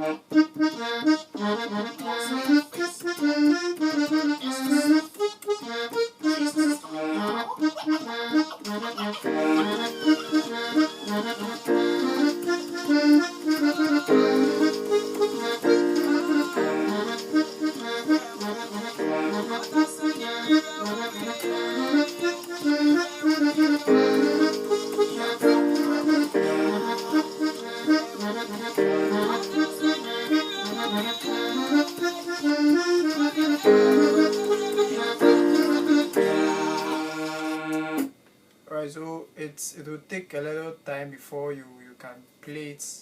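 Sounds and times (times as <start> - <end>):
keyboard playing gospel groove: 0.0 - 38.1.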